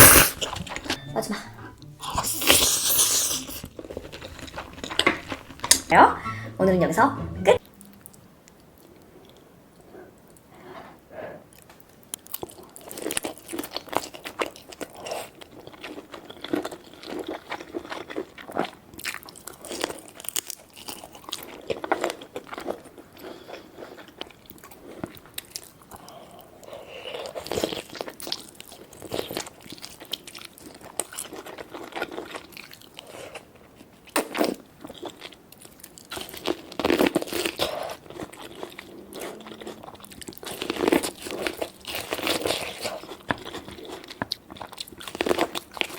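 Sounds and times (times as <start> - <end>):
crunching and chewing: 2.4 - 5.9, 11.5 - 45.9.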